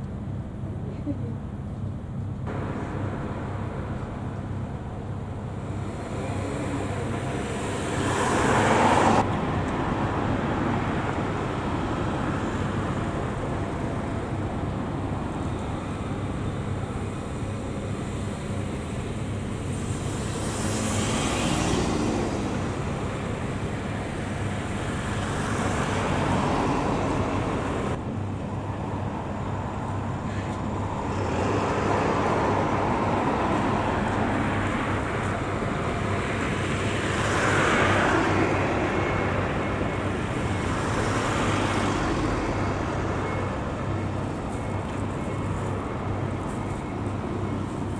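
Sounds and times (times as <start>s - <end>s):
engine and tyre hum: 0.0s - 47.9s
vehicles passing: 0.0s - 47.9s.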